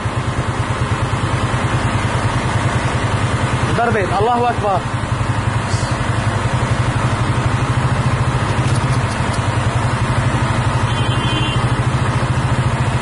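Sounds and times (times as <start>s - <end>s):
low pulsing engine drone: 0.0s - 13.0s.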